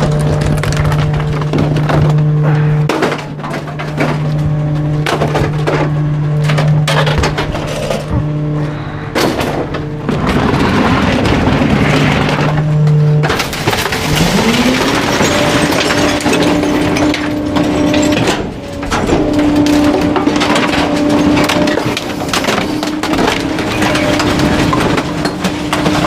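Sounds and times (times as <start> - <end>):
wood cracking and splintering: 0.0 - 8.2, 9.2 - 26.0
hydraulics humming: 0.0 - 26.0.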